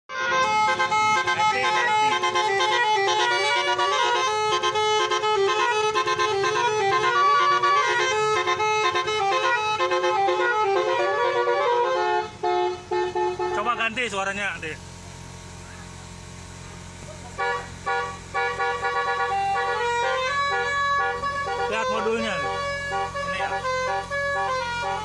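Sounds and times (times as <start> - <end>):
multi-tone horn melody: 0.1 - 14.2, 16.9 - 25.0.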